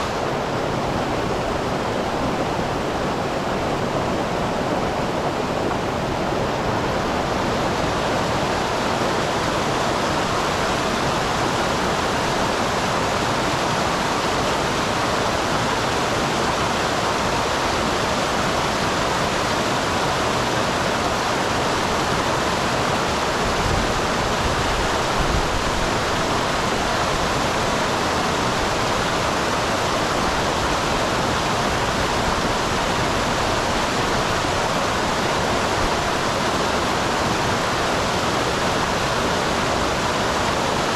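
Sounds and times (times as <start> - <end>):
small waterfall rushing: 0.0 - 40.9.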